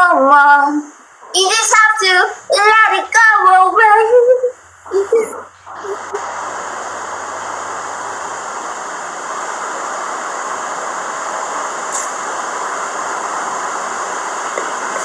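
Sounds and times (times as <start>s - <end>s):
steady rushing noise: 1.0s - 15.0s.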